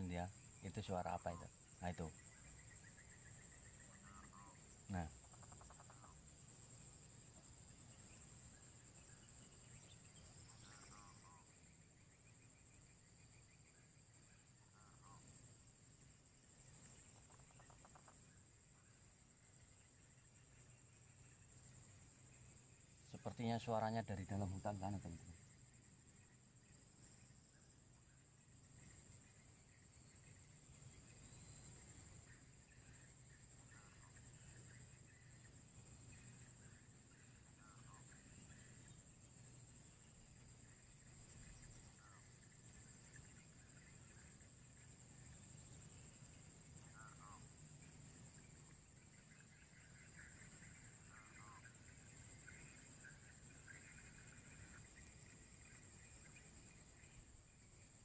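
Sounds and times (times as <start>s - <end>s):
high-pitched insect drone: 0.0s - 15.4s, 16.8s - 58.0s.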